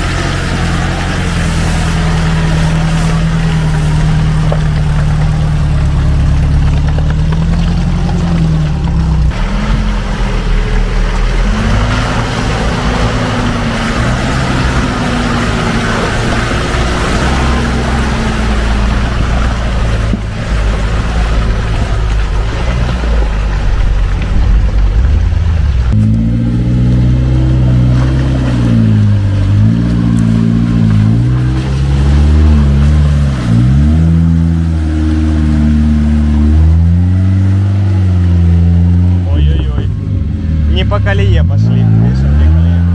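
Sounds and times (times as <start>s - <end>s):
engine revving: 0.0s - 42.9s
off-road engine labouring: 0.0s - 42.9s
tyres churning mud: 0.0s - 42.9s.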